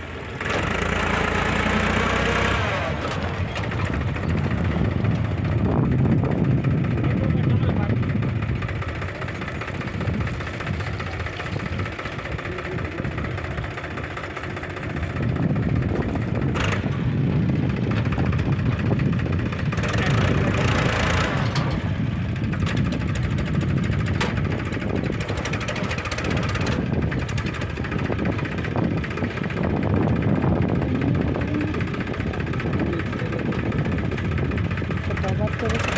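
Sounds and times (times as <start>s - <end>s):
heavy diesel engine running: 0.0s - 35.9s.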